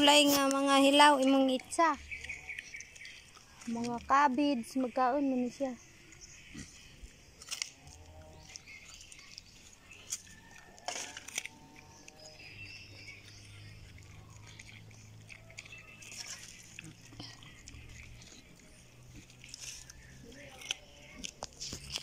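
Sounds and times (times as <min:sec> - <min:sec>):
pig chewing and crunching food: 0:00.0 - 0:22.0.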